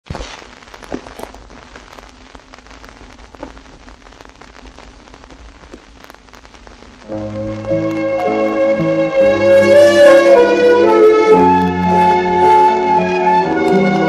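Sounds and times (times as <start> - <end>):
vinyl pops and clicks: 0.0 - 9.2, 11.3 - 14.0
vinyl record hiss and crackle: 0.0 - 14.0.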